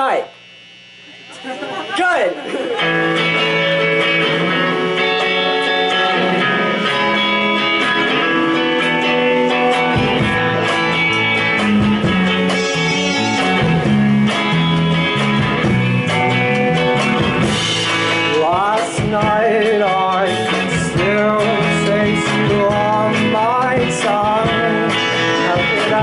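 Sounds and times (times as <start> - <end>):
bass guitar: 0.0 - 26.0
electric guitars sustained notes: 0.0 - 26.0.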